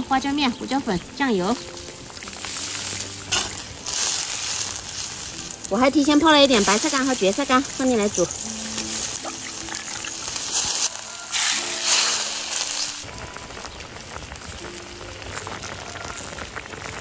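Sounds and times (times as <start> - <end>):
broth boiling and bubbling: 0.0 - 17.0
soft background music: 0.0 - 17.0.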